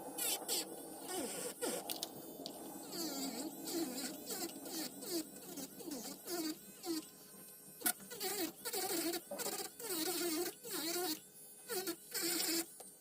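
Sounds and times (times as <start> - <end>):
electric nail drill buzzing: 0.0 - 13.0.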